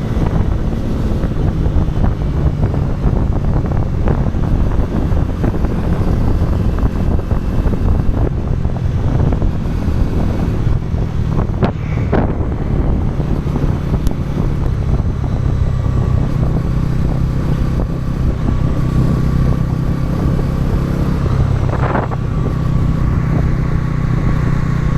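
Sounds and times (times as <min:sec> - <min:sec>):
motorcycle engine running: 0:00.0 - 0:24.9
wind noise on microphone: 0:00.0 - 0:24.9.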